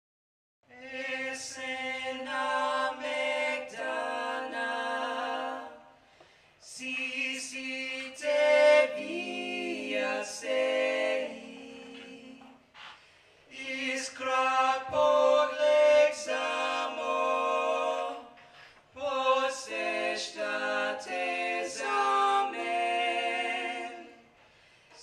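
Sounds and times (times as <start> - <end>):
voices singing close harmony: 0.7 - 25.0.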